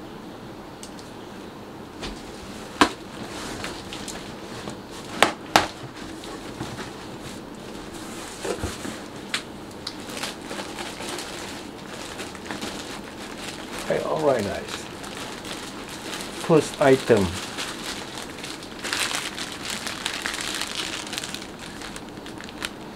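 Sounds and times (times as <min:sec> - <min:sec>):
plastic packing and cardboard rustling: 0:02.0 - 0:22.9.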